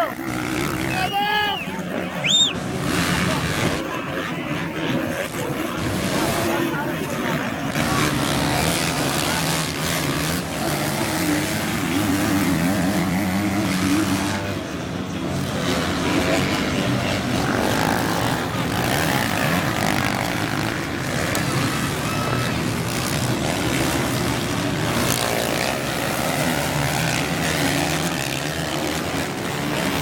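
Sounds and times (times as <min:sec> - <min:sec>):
motocross engines revving: 0:00.0 - 0:30.0.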